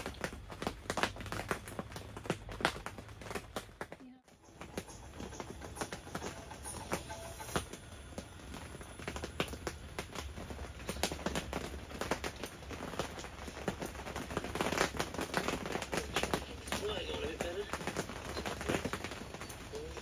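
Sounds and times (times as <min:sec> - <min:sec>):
raindrops tapping on tent: 0:00.0 - 0:20.0.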